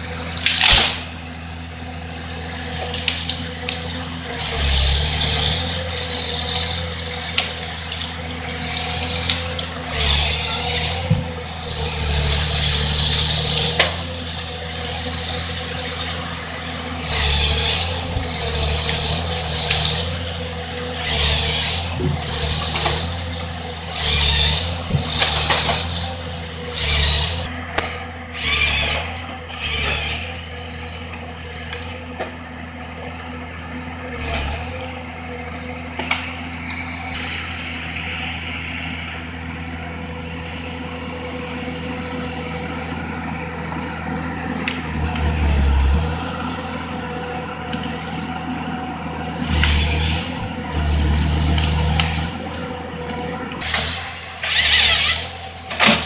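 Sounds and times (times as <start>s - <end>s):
diesel engine running: 0.0s - 56.0s
hydraulics surging: 0.0s - 56.0s.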